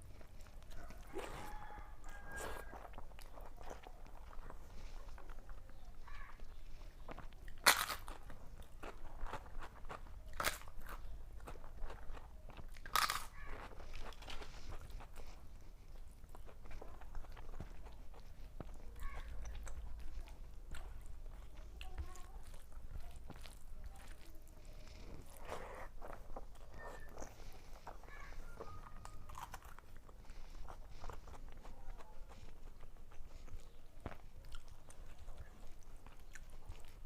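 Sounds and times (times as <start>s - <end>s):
chewing: 0.0s - 37.0s
crunching bites of crisp food: 0.0s - 37.0s.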